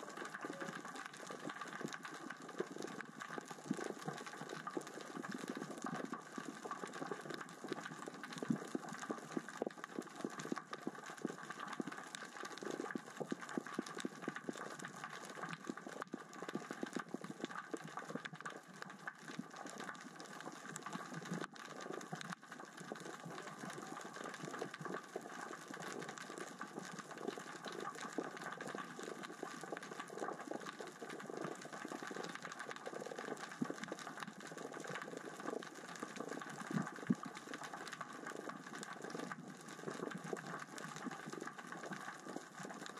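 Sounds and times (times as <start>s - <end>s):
underwater rocks clicking: 0.0s - 42.9s.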